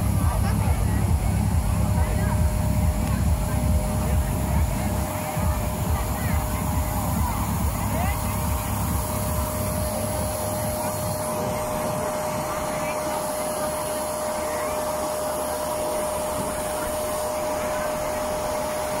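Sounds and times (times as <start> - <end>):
blower whooshing drone: 0.0 - 19.0.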